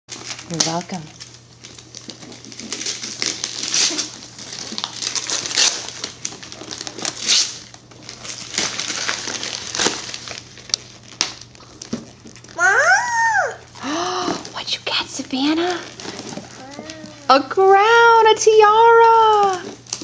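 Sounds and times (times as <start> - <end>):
wrapping paper tearing and crumpling: 0.1 - 20.0.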